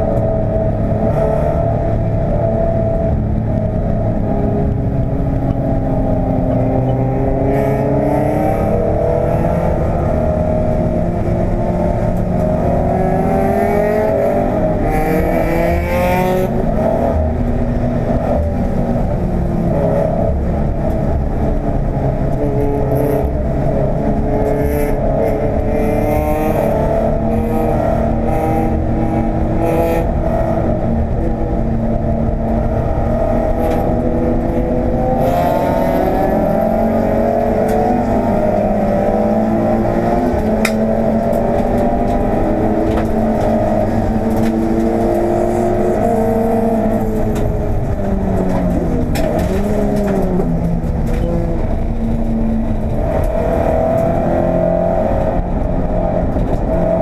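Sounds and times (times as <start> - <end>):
car engine revving through gears: 0.0 - 57.0
road and wind noise: 0.0 - 57.0.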